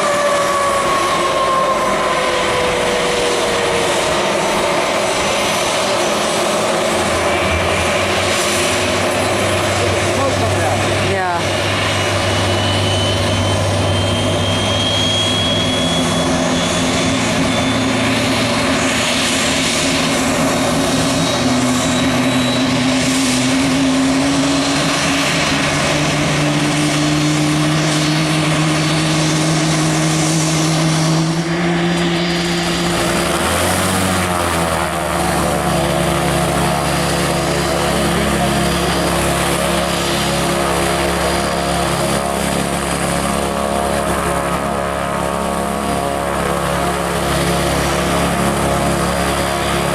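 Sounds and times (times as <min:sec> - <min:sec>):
aircraft engines running: 0:00.0 - 0:49.9.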